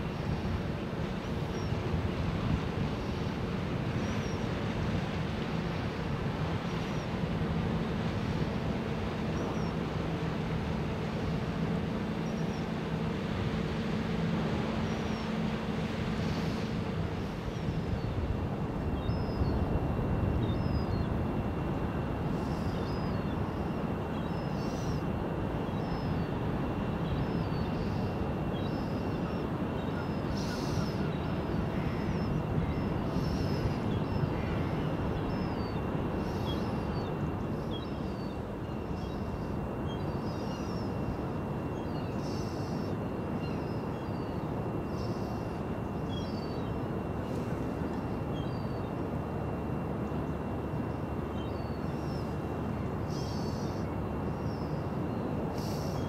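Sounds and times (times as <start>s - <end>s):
low outdoor rumble and hiss: 0.0s - 56.0s.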